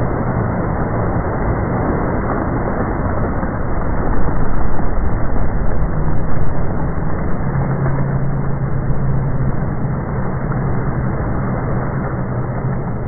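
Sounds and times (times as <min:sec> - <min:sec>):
rushing surging water: 0:00.0 - 0:13.0
steady low hum: 0:00.0 - 0:13.0.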